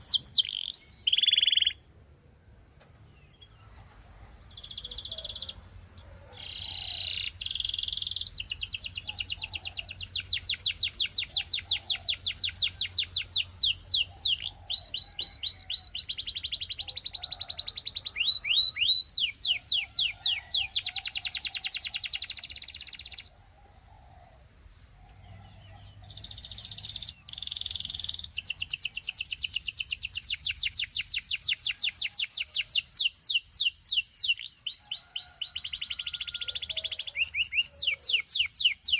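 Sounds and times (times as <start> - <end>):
canary singing: 0.0 - 1.9, 3.2 - 23.4, 25.1 - 38.9.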